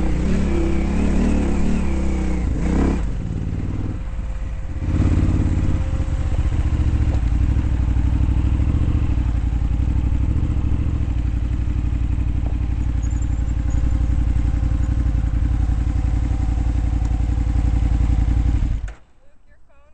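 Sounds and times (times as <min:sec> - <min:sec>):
dirt bike engine chugging: 0:00.0 - 0:19.9.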